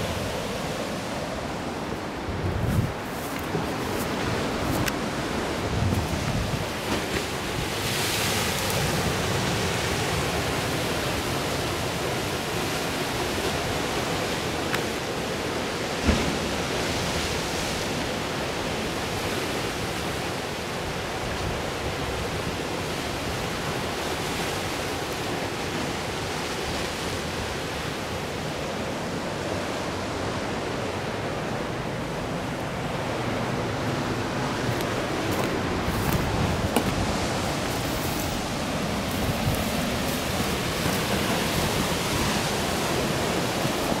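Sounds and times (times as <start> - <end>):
surf on rocky shore: 0.0 - 44.0.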